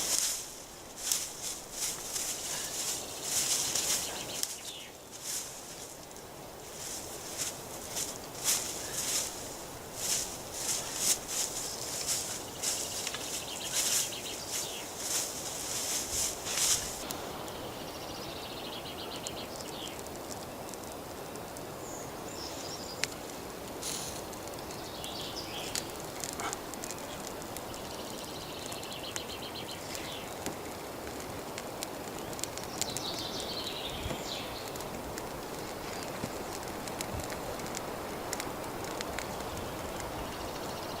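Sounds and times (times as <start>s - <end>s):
songbird singing: 0.0s - 20.3s, 21.7s - 30.5s, 32.0s - 36.7s, 38.8s - 41.0s
steady background hiss: 0.0s - 41.0s.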